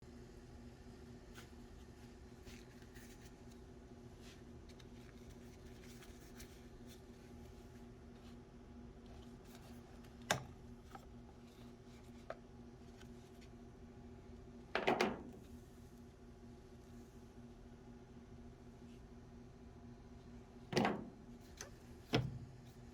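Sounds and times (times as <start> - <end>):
faint steady hum: 0.0 - 22.9.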